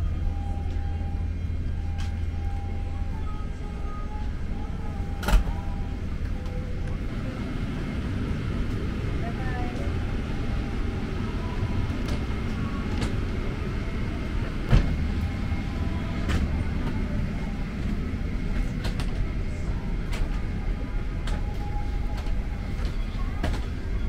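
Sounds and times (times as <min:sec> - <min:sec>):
vehicle interior rumble: 0:00.0 - 0:24.0.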